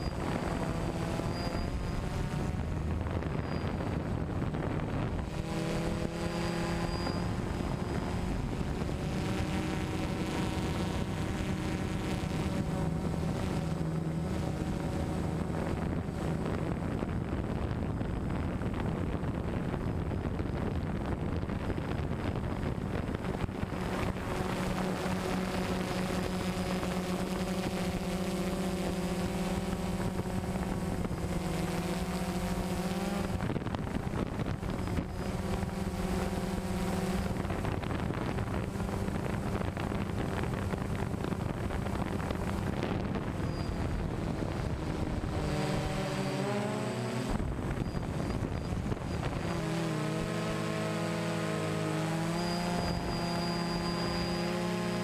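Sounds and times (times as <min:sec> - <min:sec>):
drone motors buzzing: 0:00.0 - 0:55.0
wind noise on microphone: 0:00.0 - 0:55.0.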